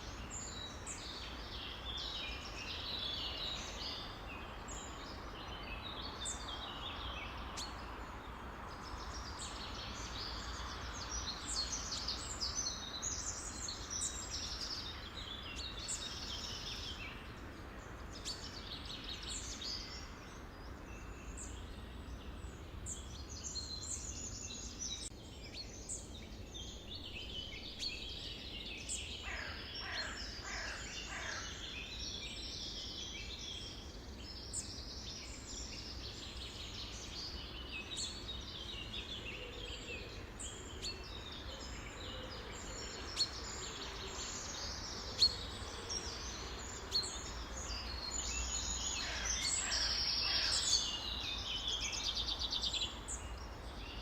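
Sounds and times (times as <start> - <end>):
low background hiss: 0.0 - 54.0
songbirds chirping: 0.0 - 54.0.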